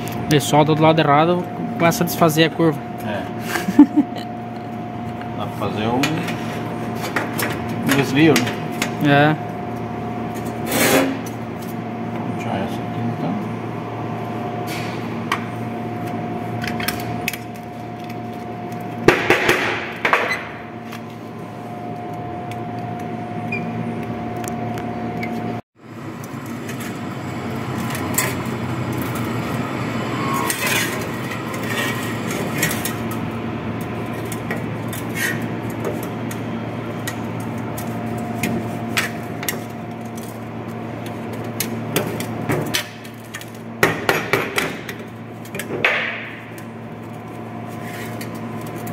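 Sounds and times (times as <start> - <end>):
steady workshop hum: 0.0 - 48.9.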